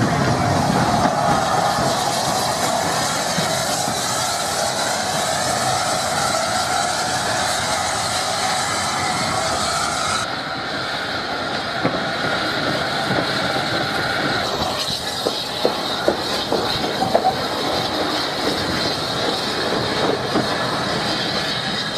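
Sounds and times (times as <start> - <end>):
rising whine: 0.0 - 21.9
steam locomotive running: 0.0 - 21.9.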